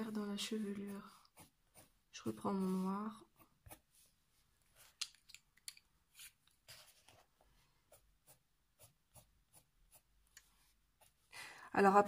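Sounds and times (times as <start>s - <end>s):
pencil scratching on paper: 0.0s - 4.9s, 6.2s - 11.3s.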